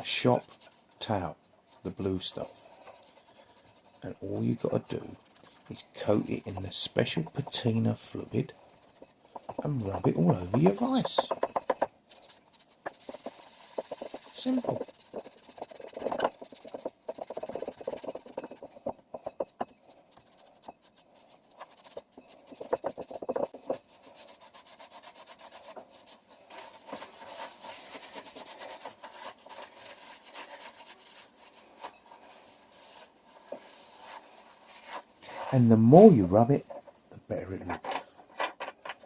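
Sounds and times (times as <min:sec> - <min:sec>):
paper towel rubbing on metal: 0:00.0 - 0:36.9.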